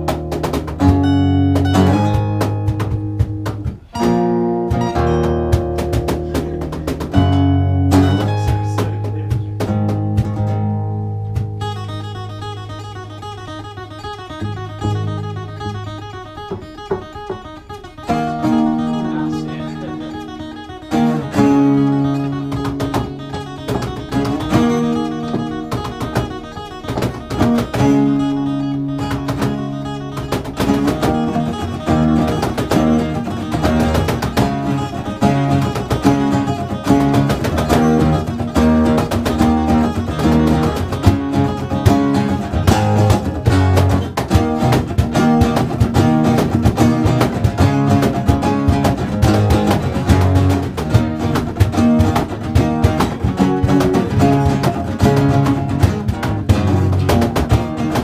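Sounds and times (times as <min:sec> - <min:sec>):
acoustic guitars strumming: 0:00.0 - 0:58.0.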